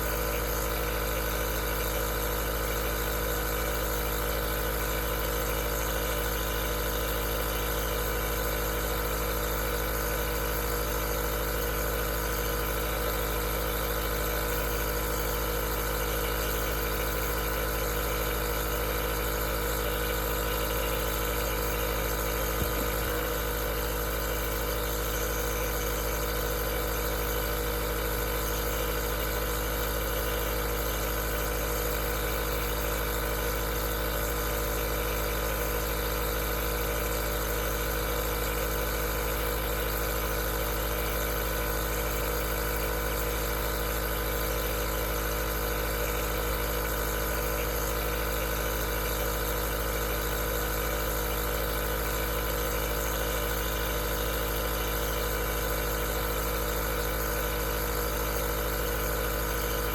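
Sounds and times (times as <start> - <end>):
nebulizer compressor humming: 0.0 - 59.9.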